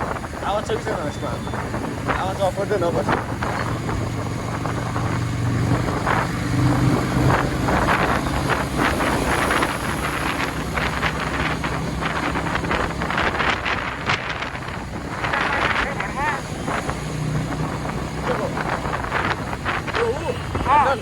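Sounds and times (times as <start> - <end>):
motorcycle engine running: 0.0 - 21.0
wind gusting over microphone: 0.0 - 21.0.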